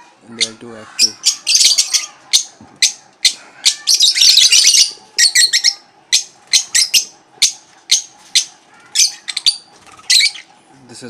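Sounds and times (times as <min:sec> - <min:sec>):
lovebirds chirping: 0:00.2 - 0:10.6
chattering squawks: 0:00.3 - 0:10.6.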